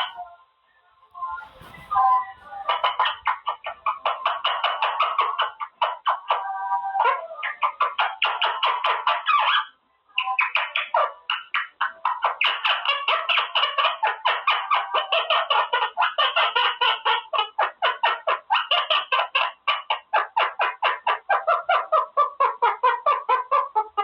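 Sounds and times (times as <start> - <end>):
parrot chattering: 2.6 - 24.0.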